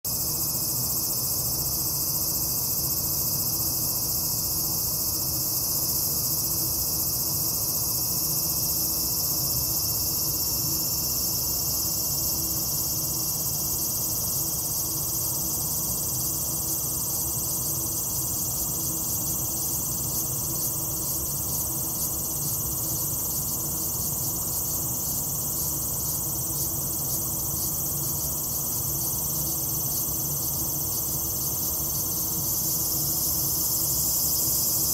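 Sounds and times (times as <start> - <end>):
insects buzzing: 0.1 - 34.9.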